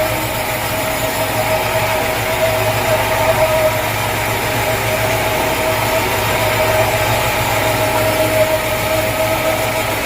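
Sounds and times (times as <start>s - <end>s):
sawmill machinery whining: 0.0s - 10.0s.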